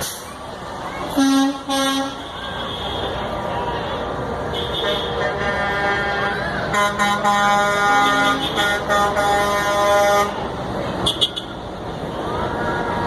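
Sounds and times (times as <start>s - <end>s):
trucks passing: 0.0s - 13.0s
truck air horns honking: 1.1s - 11.6s.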